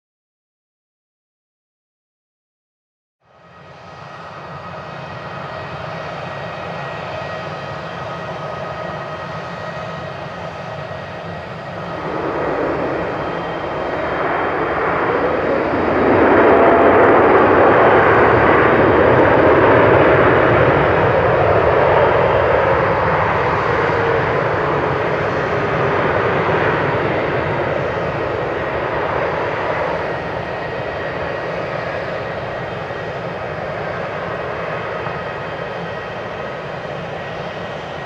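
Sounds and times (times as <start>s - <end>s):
jet engines roaring on landing: 3.3s - 38.0s.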